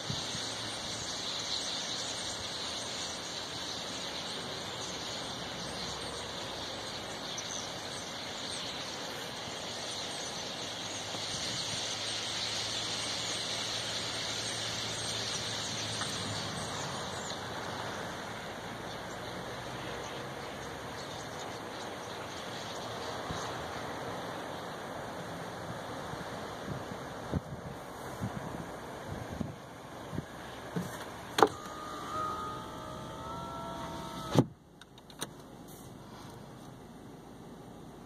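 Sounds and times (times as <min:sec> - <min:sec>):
flock of small birds calling: 0:00.0 - 0:34.5.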